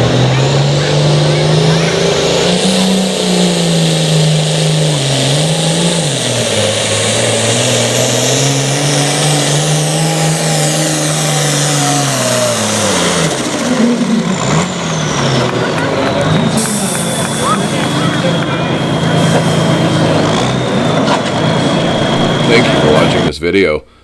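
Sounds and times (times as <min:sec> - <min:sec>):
diesel tractor engine revving: 0:00.0 - 0:23.5
turbo whine: 0:00.0 - 0:23.5.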